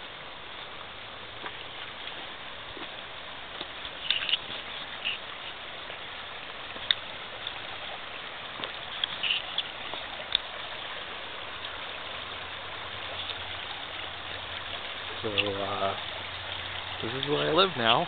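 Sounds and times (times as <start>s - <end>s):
stream flowing over stones: 0.0s - 18.0s.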